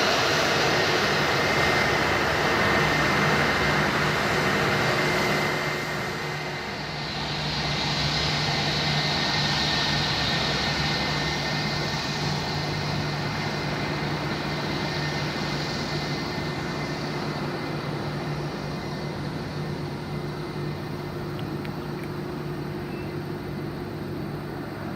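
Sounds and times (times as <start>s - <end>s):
jet airliner engines rushing: 0.0s - 24.9s.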